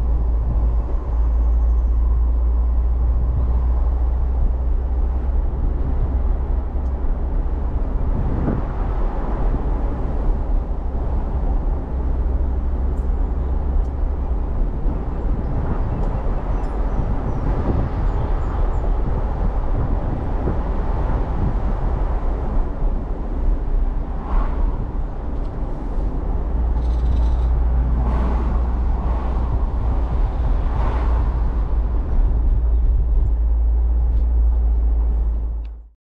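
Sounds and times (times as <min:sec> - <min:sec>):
car driving: 0:00.0 - 0:35.9
heavy low rumble: 0:00.0 - 0:36.0
road and wind noise: 0:00.0 - 0:36.0.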